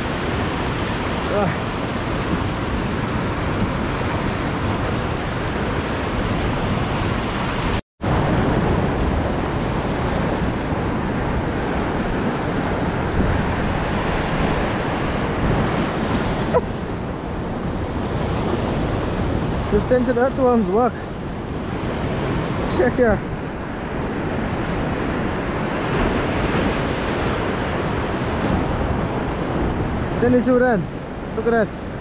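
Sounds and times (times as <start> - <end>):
ocean surf washing over rocks: 0.0 - 32.0.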